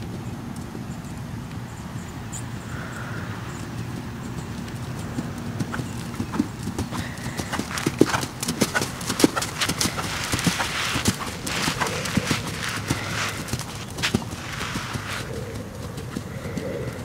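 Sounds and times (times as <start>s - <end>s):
hooves trotting on sand: 0.0s - 17.0s.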